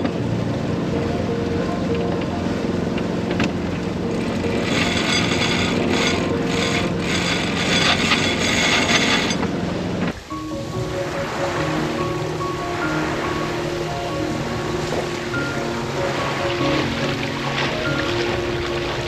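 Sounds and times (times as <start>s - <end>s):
boat engine humming: 0.0s - 19.0s
rushing water: 0.0s - 19.0s
rushing wind: 0.0s - 19.0s.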